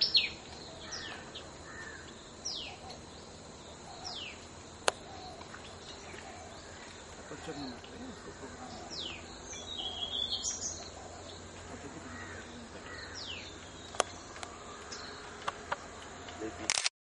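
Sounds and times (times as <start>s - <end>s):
birds calling: 0.0s - 16.7s
insects buzzing: 0.0s - 16.9s.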